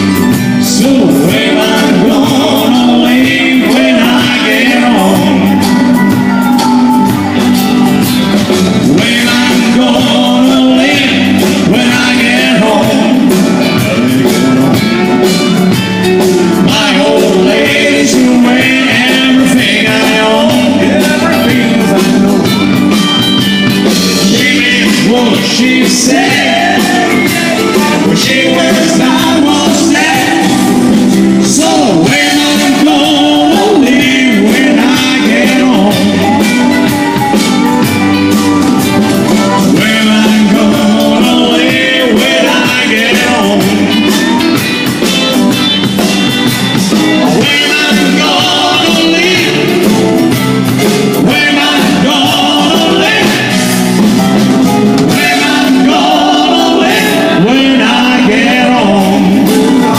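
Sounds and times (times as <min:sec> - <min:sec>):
drum kit beat: 0:00.0 - 0:59.9
guitar: 0:00.0 - 0:59.9
person singing: 0:00.0 - 0:59.9.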